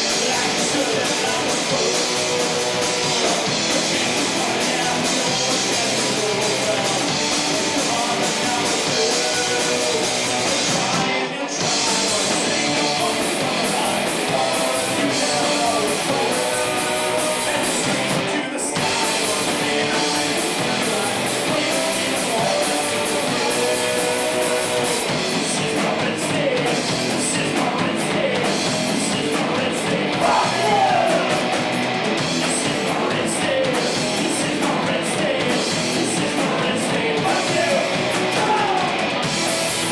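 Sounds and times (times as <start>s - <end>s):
person singing: 0.0s - 39.1s
live rock band playing: 0.0s - 39.9s.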